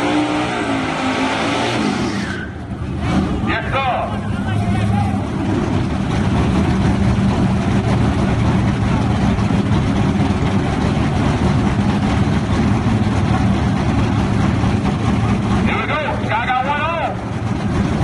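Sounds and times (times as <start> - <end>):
truck engine idling loudly: 2.5 - 18.0.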